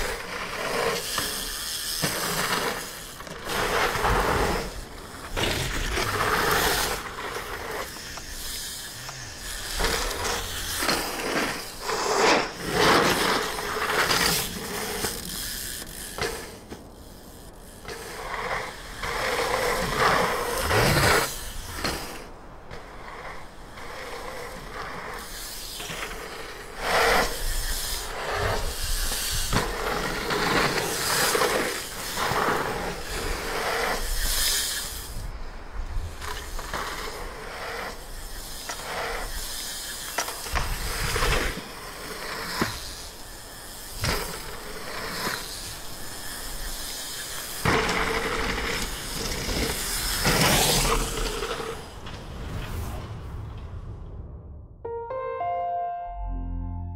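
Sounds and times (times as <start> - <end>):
bike tyres skidding on dirt: 0.0 - 54.0.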